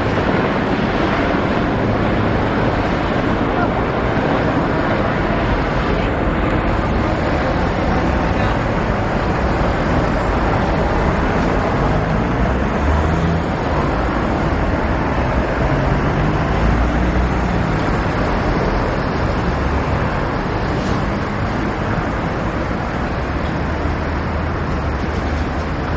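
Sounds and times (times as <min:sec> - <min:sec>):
helicopters rumbling: 0:00.0 - 0:25.9
road traffic noise: 0:00.0 - 0:25.9.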